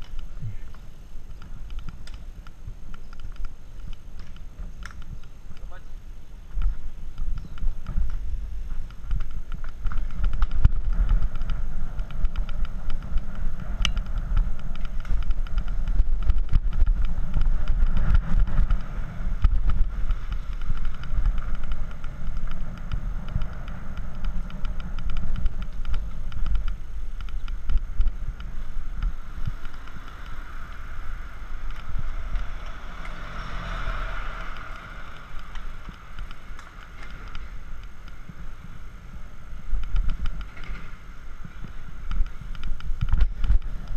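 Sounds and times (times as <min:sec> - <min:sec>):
bicycle clicks and rattles: 0:00.0 - 0:43.9
road rumble: 0:00.0 - 0:43.9
wind buffeting microphone: 0:00.0 - 0:43.9.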